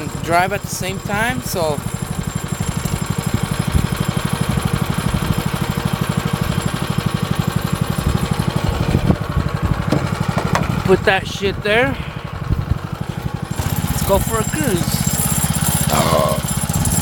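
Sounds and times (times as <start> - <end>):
go-kart engine idling: 0.0 - 17.0.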